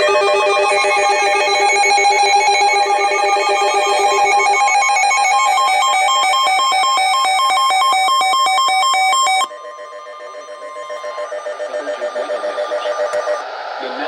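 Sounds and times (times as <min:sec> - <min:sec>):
electronic alert tones: 0:00.0 - 0:13.4.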